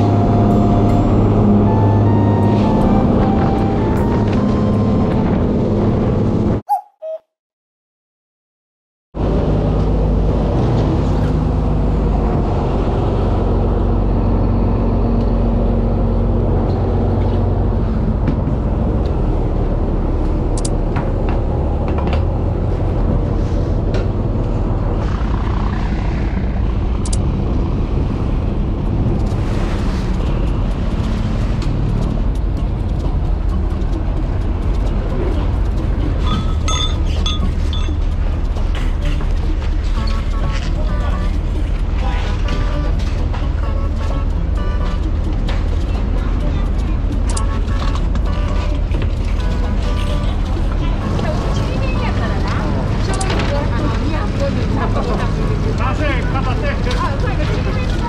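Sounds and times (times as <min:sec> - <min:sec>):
engine droning: 0:00.0 - 0:06.6, 0:09.2 - 0:58.0.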